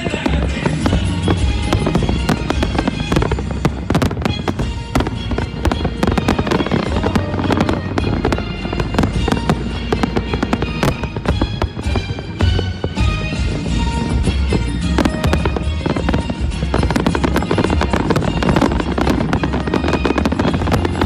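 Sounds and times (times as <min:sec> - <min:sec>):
fireworks exploding: 0:00.0 - 0:21.0
loud music with deep bass: 0:00.0 - 0:21.0.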